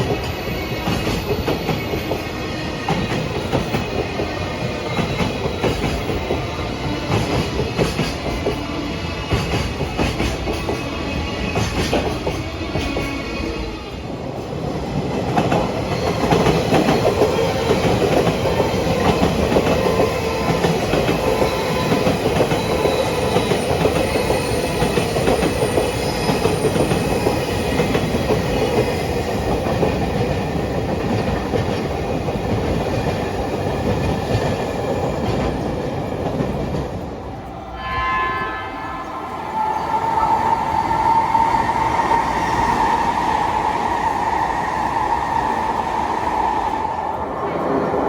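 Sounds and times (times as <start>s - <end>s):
train wheels clacking on rails: 0.0s - 48.0s.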